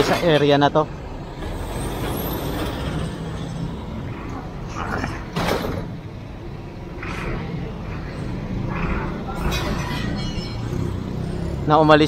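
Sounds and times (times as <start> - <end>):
bicycle rattling and scraping: 0.0 - 12.0
street traffic rumble: 0.0 - 12.0
vehicle engine running: 0.8 - 12.0.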